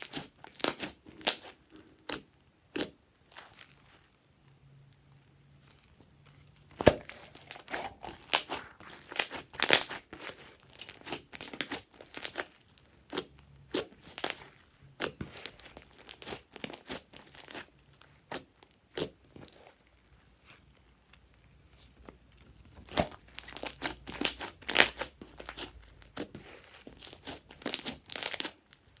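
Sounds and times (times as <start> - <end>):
slime crackling and popping: 0.0 - 4.0, 6.6 - 21.3, 22.6 - 29.0.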